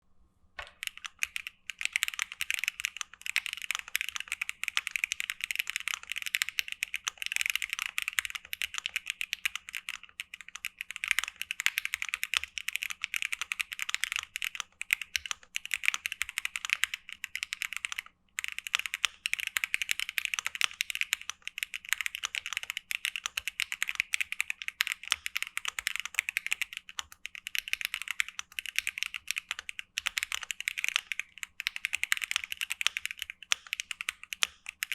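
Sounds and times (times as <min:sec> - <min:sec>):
mechanical keyboard typing: 0:00.6 - 0:34.9.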